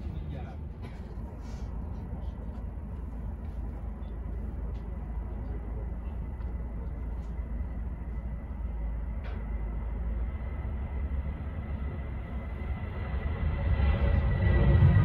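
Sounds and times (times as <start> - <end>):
low airport rumble: 0.0 - 15.0.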